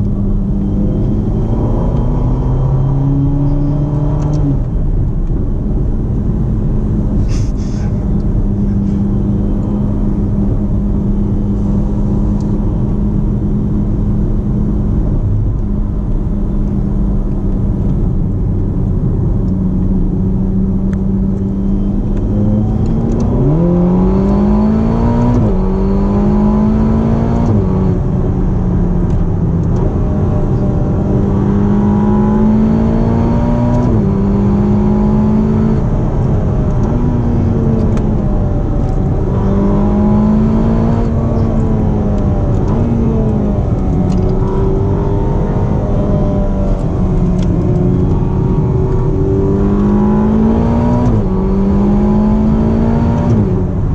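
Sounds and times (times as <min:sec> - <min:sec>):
car engine accelerating: 0:00.0 - 0:53.9
road and tyre noise: 0:00.0 - 0:53.9.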